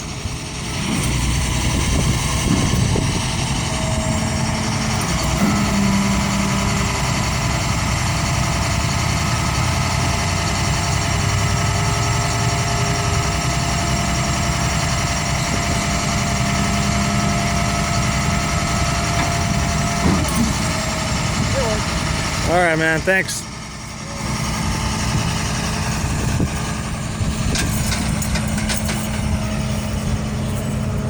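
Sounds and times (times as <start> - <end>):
constant whine: 0.0 - 31.0
truck engine running: 0.0 - 31.0.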